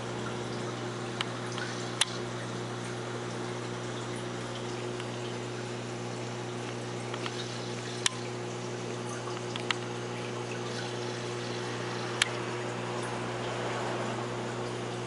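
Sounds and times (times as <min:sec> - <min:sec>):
aquarium pump humming: 0:00.0 - 0:15.0
water trickling and splashing: 0:00.0 - 0:15.0.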